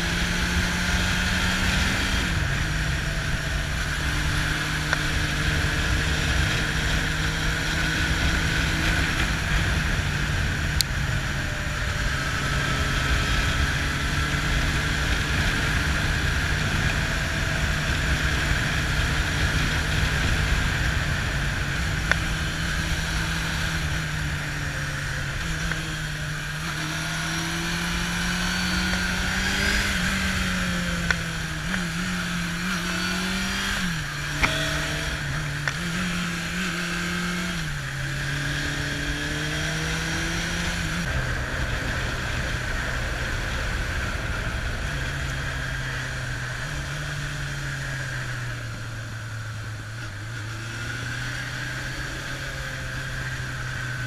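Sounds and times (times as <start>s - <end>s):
motorcycle engine cruising: 0.0s - 54.0s
wind and road rush: 0.0s - 54.0s.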